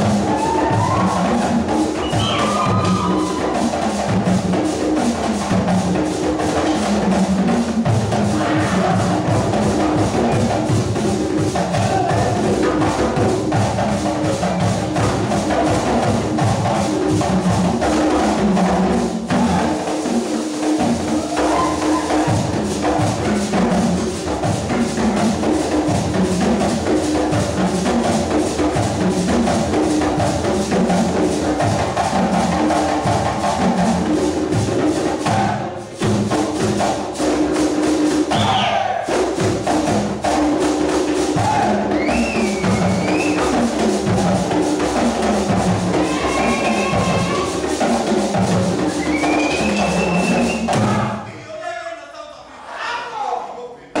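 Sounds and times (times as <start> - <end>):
drum and percussion music: 0.0 - 51.8.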